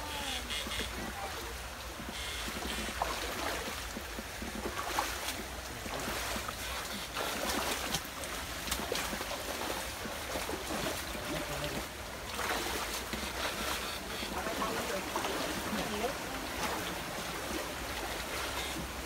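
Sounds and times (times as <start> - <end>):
people wading through water: 0.0 - 19.0
stream current rushing: 0.0 - 19.0.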